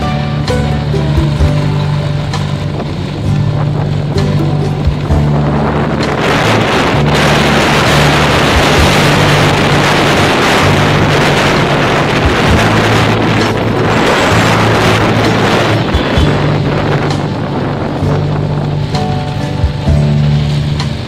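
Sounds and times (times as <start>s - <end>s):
wind rush on microphone: 0.0s - 21.0s.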